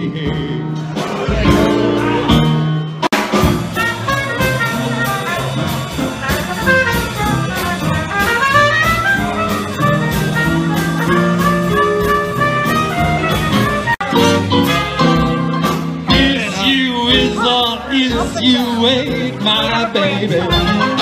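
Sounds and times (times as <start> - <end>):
swing rhythm section: 0.0 - 21.0
trumpet lead line: 1.4 - 21.0.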